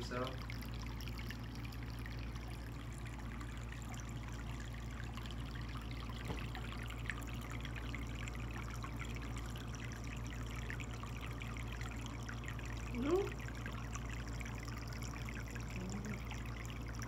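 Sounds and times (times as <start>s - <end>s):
low steady hum: 0.0s - 17.0s
water trickling into pond: 0.0s - 17.0s.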